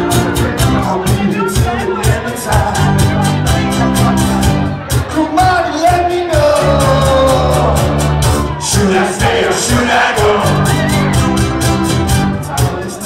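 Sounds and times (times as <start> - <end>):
person singing: 0.0 - 11.5
guitars: 0.0 - 13.0
steady drum beat: 0.0 - 13.0.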